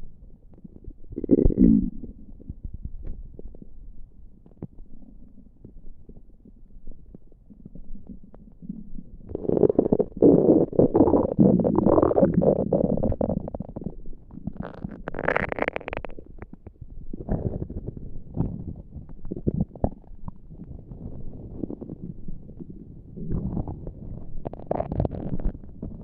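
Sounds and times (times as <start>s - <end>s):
stomach gurgling and rumbling: 0.0s - 26.0s.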